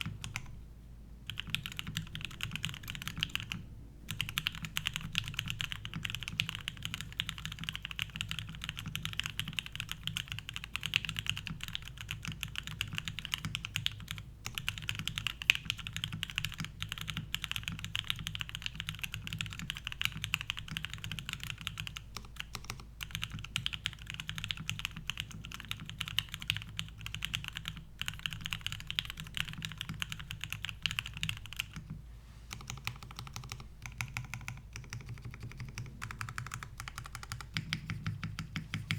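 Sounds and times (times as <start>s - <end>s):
mechanical keyboard typing: 0.0s - 0.5s, 1.3s - 38.9s.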